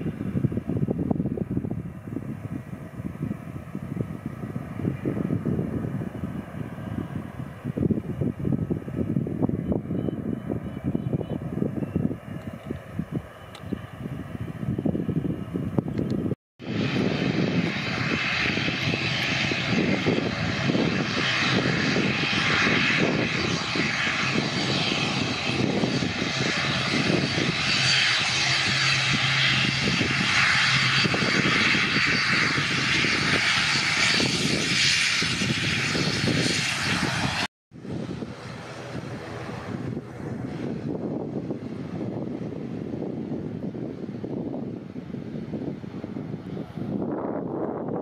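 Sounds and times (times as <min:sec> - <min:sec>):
turboprop engines hissing and droning: 0:00.0 - 0:48.0.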